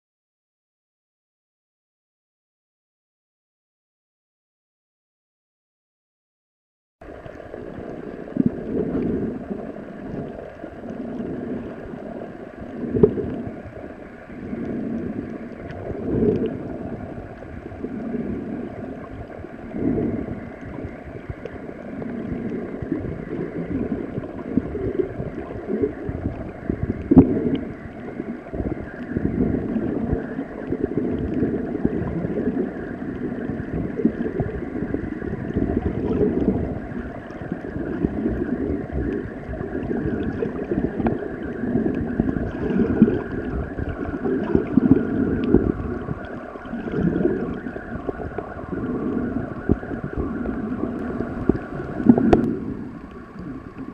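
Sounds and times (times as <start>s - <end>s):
faint steady hum: 7.0s - 53.9s
underwater swirling and gurgling: 7.0s - 53.9s.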